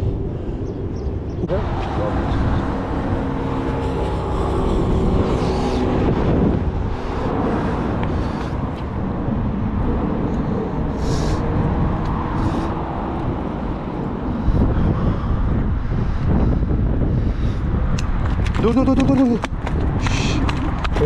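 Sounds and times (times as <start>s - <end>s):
engine hum: 0.0s - 21.0s
road traffic passing: 0.0s - 21.0s
wind on microphone: 0.0s - 21.0s.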